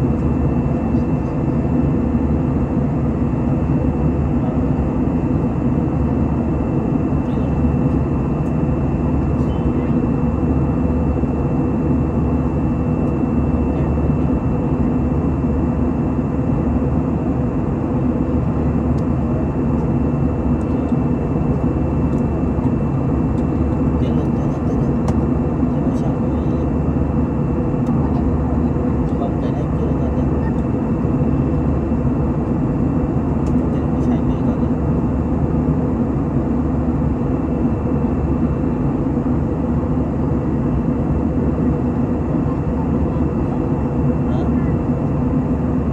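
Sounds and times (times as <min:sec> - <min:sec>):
airliner cabin engine noise: 0:00.0 - 0:45.9.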